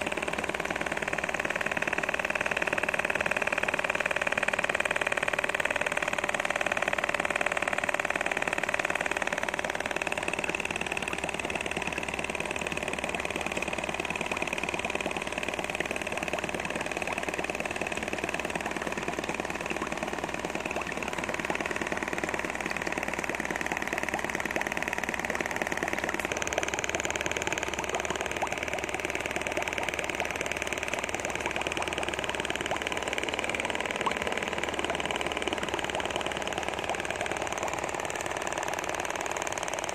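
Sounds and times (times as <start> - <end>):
air pump mechanical chatter: 0.0 - 39.9
small motor whirring: 0.0 - 39.9.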